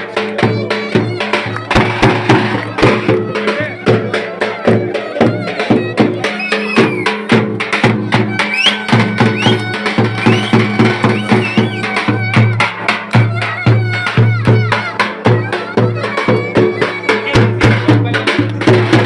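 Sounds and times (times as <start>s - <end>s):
drum beating fast: 0.0s - 19.0s
low accompaniment: 0.0s - 19.0s.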